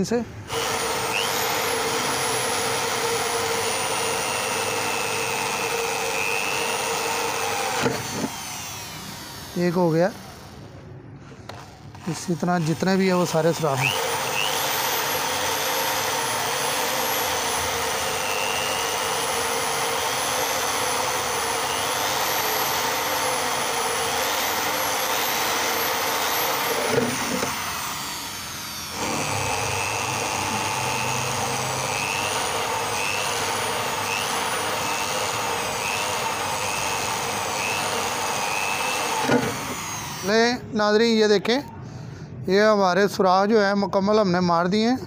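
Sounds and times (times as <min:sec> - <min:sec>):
electric drill whining: 0:00.4 - 0:10.7, 0:11.5 - 0:40.6.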